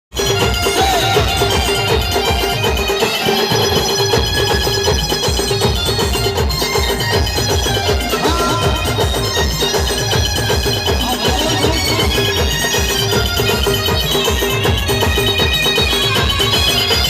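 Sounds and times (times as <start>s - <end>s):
held melody line: 0.1s - 17.0s
quick drum beat: 0.2s - 17.0s.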